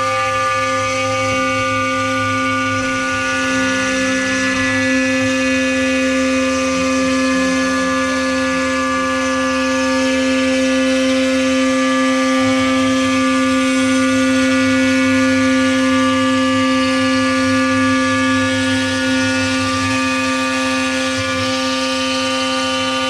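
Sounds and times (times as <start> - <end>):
end mill cutting plywood: 0.0 - 23.0
router spindle whine: 0.0 - 23.0.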